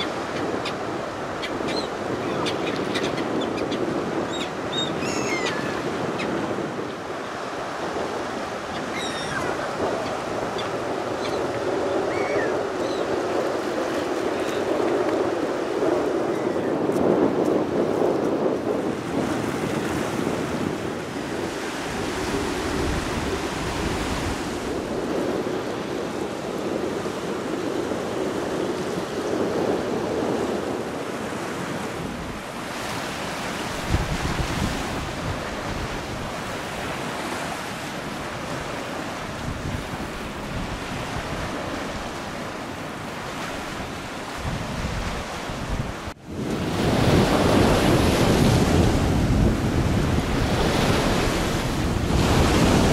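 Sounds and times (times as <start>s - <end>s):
surf washing onto beach: 0.0s - 52.9s
wind on microphone: 0.0s - 52.9s.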